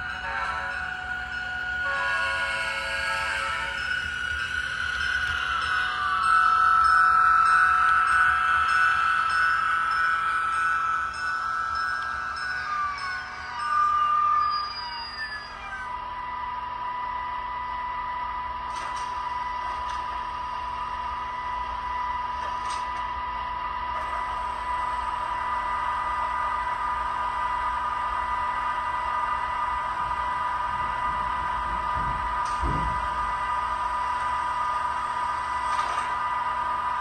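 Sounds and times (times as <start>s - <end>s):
high turbine whine: 0.0s - 37.0s.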